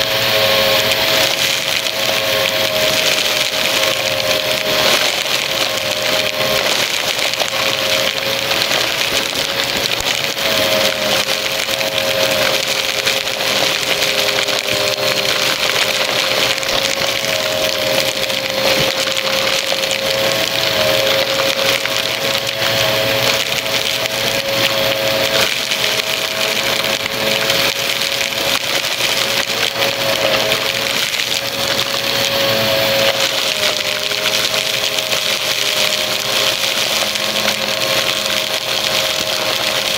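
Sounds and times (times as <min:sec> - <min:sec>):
debris crackling through tube: 0:00.0 - 0:39.9
vacuum cleaner motor whine: 0:00.0 - 0:39.9.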